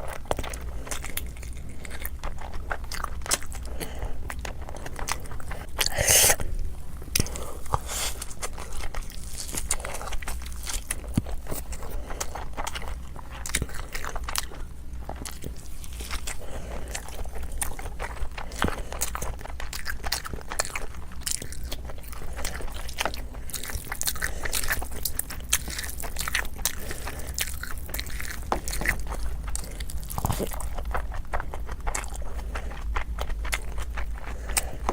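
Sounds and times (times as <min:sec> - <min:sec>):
person chewing crunchy food: 0:00.0 - 0:34.9
steady low hum: 0:00.0 - 0:34.9.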